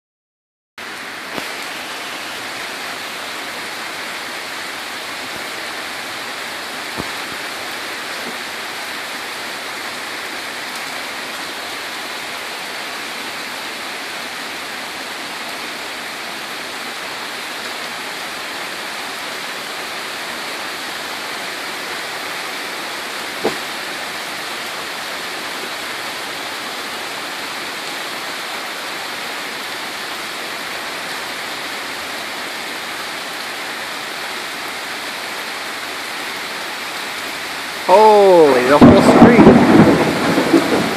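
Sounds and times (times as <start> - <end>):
heavy rain pouring: 0.8 - 40.9.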